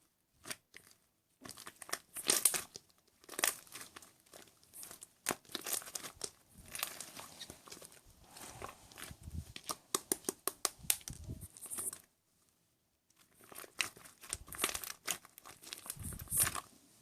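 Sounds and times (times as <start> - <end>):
crinkling and crackling: 0.0 - 17.0.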